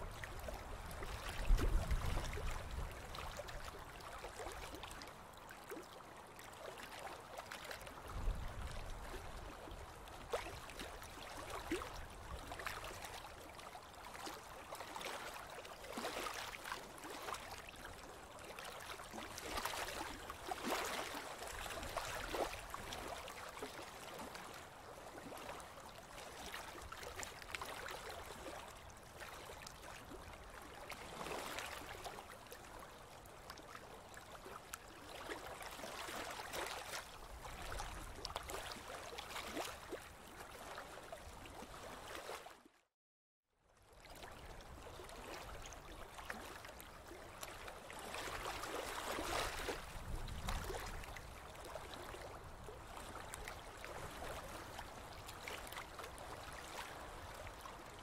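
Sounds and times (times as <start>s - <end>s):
river water lapping and splashing: 0.0s - 42.9s, 43.7s - 58.0s.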